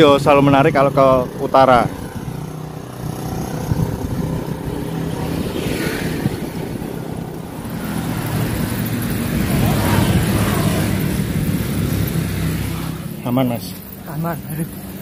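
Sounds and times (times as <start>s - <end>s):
motor vehicle passing: 0.0s - 15.0s
wind and road rumble: 0.0s - 15.0s.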